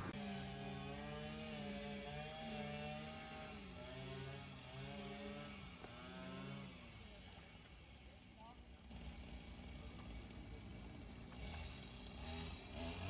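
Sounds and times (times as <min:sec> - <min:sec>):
motor engine droning: 0:00.0 - 0:13.0.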